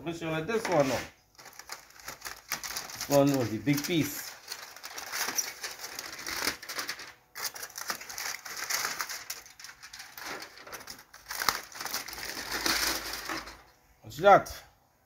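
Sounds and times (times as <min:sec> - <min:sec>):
aluminium foil crinkling: 0:01.3 - 0:13.7.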